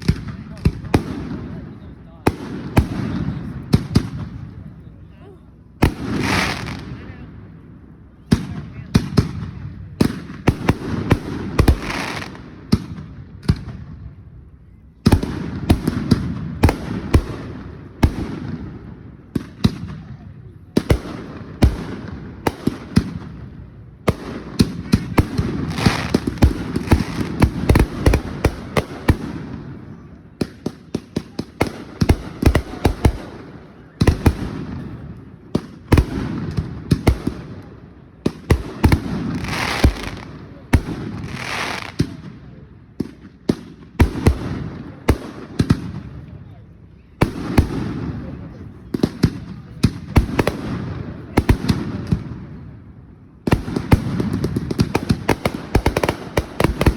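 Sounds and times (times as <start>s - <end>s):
fireworks bangs: 0.0s - 4.8s, 5.8s - 7.3s, 8.2s - 14.1s, 15.0s - 46.3s, 47.2s - 56.9s
fireworks crackling: 5.8s - 7.6s, 8.2s - 13.9s, 15.0s - 46.3s, 47.2s - 56.9s.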